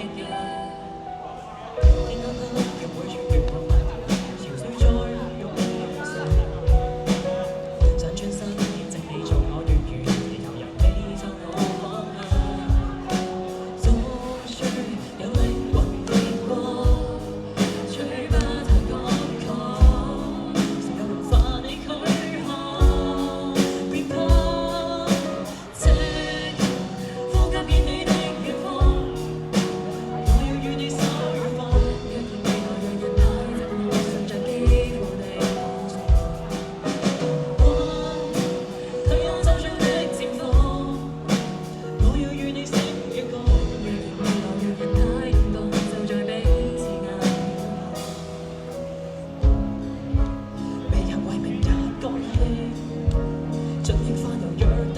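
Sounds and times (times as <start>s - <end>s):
live band playing: 0.0s - 54.9s
person singing: 0.0s - 54.9s
steady drum beat: 1.8s - 54.9s.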